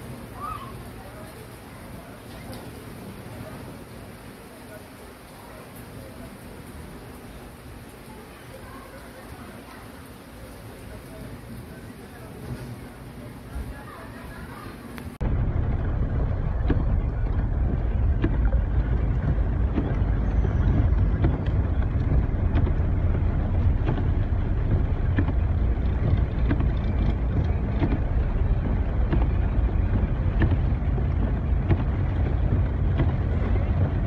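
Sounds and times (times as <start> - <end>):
storm wind buffeting microphone: 0.0 - 34.0.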